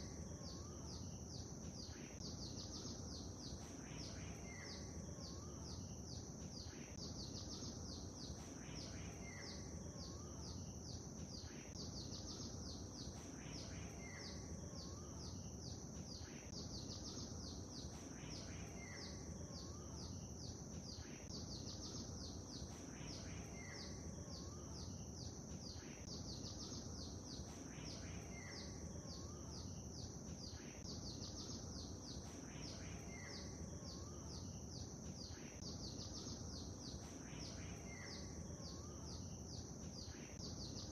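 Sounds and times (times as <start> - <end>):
low background hiss: 0.0 - 40.9
small birds chirping: 0.0 - 40.9.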